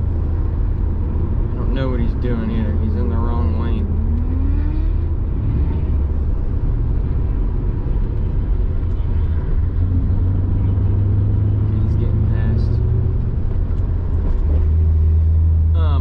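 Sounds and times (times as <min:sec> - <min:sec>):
car engine drone from inside: 0:00.0 - 0:16.0
road noise: 0:00.0 - 0:16.0.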